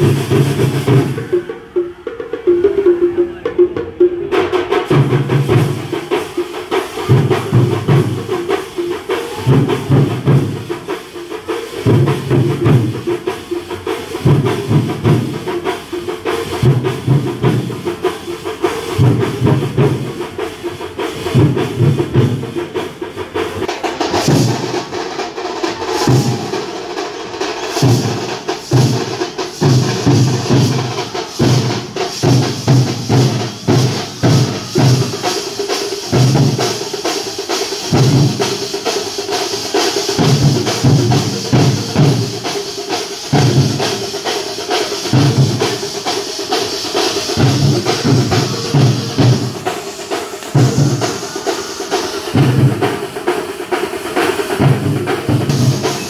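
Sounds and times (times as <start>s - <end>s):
drums playing fast rhythm: 0.0s - 56.0s
bright hissy layer: 4.9s - 56.0s.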